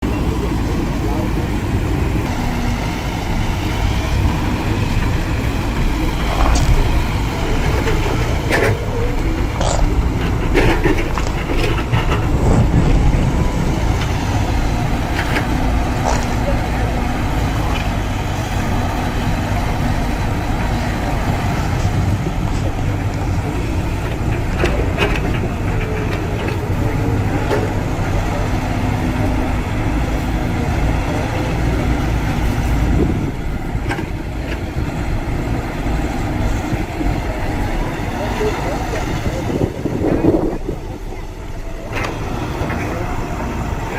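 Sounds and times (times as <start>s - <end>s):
heavy machinery diesel engine running: 0.0s - 43.9s.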